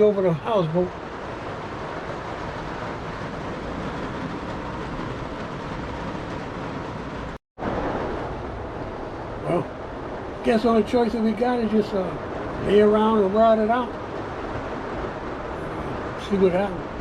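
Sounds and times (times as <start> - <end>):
heavy rain: 0.0 - 17.0
wind: 0.0 - 17.0.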